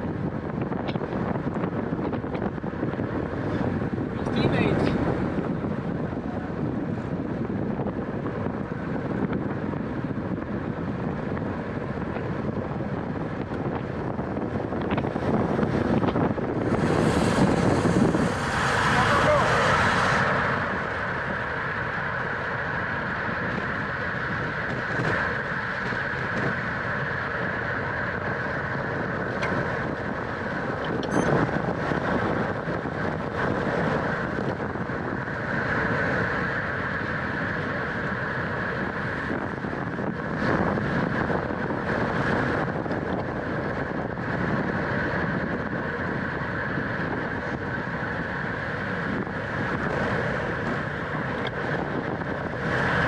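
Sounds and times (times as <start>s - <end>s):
wind rush over microphone: 0.0s - 53.0s.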